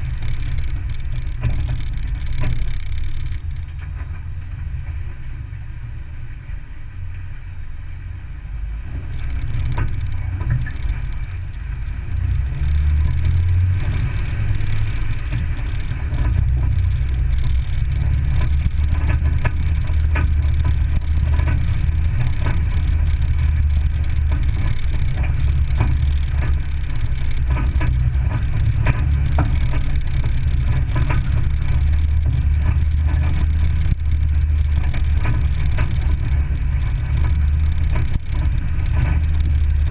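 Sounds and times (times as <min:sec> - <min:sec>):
gravel clicks and knocks: 0:00.0 - 0:04.1, 0:09.1 - 0:39.9
engine and tyre rumble: 0:00.0 - 0:39.9.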